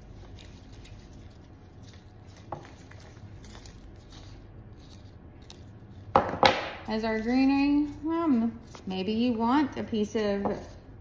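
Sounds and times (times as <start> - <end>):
rustling of flower stems: 0.0 - 6.2, 6.8 - 9.9.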